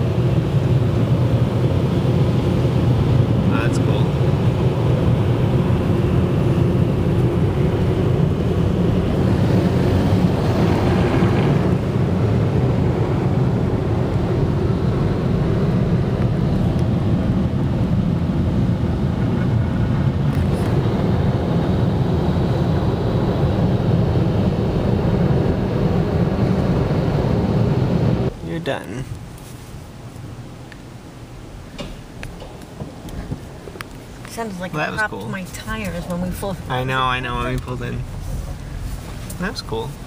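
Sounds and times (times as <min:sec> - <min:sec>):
car wash blowers blasting air: 0:00.0 - 0:40.0.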